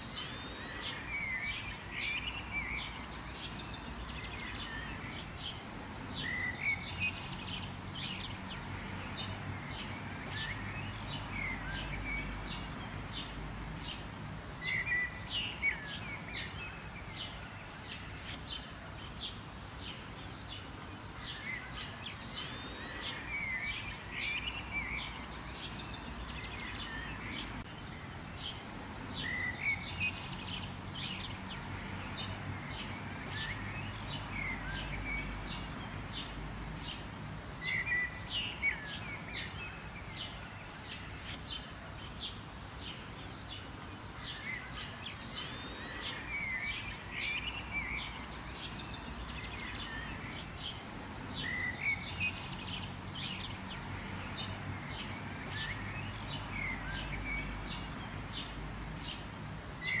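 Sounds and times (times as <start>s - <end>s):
birds chirping: 0.0s - 60.0s.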